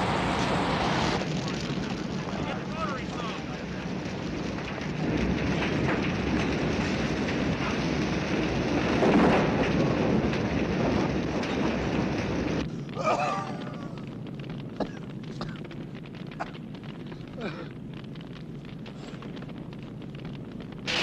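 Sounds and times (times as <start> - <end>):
building fire roaring and crackling: 0.0 - 21.0.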